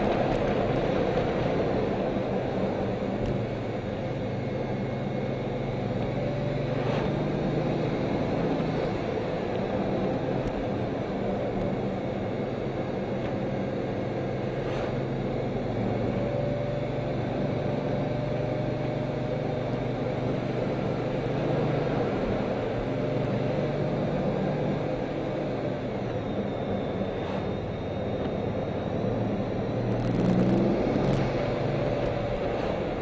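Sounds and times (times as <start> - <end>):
car engine running: 0.0 - 33.0
tyre and road noise: 0.0 - 33.0.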